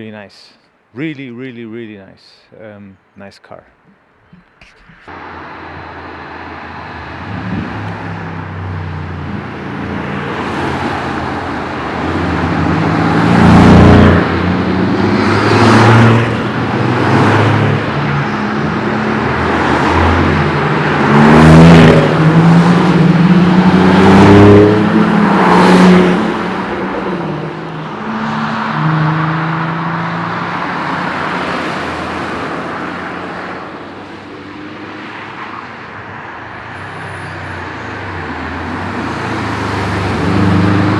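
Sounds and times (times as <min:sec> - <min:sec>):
cars driving past: 0:05.1 - 0:40.9.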